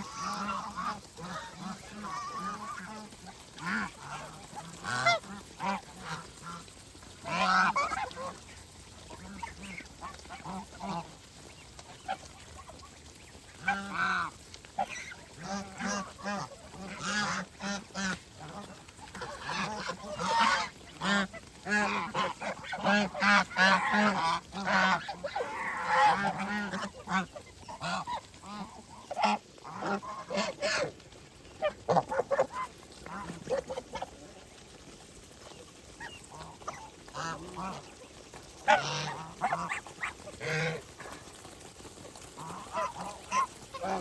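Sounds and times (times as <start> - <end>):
geese honking: 0.0 - 44.0.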